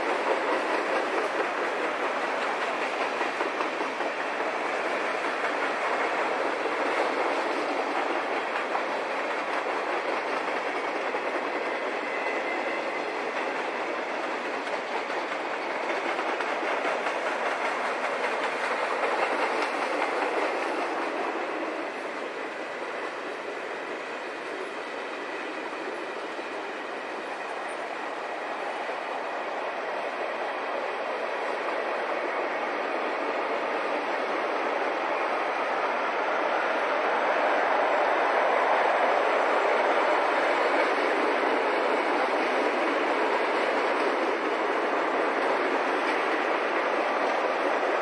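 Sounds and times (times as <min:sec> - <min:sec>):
freight train wheels clattering: 0:00.0 - 0:48.0.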